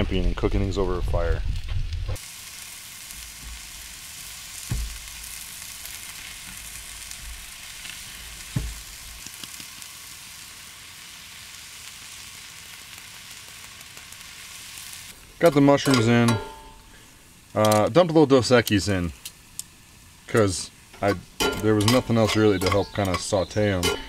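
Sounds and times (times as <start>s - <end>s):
steak sizzling in a skillet: 1.5s - 24.0s.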